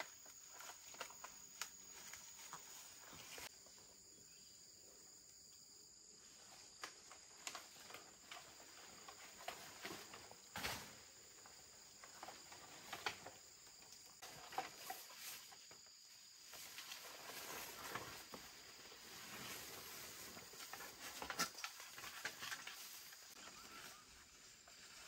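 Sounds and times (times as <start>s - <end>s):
leaves rustling and twigs snapping: 0.0s - 3.5s, 6.5s - 24.0s
insect drone: 0.0s - 25.0s.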